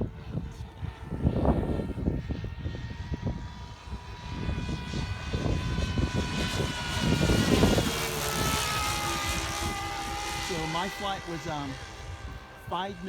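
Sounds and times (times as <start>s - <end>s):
model plane engine buzzing drone: 0.0s - 13.0s.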